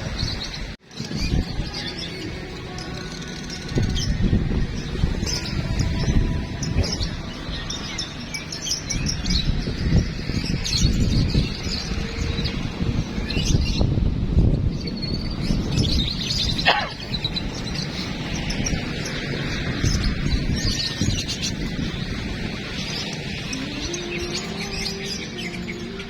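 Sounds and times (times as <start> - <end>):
songbirds singing and chirping: 0.0 - 26.0.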